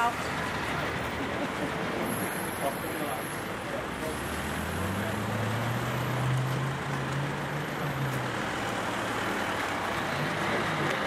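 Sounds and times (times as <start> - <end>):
road traffic noise: 0.0 - 11.0
vehicle engine humming: 0.0 - 11.0.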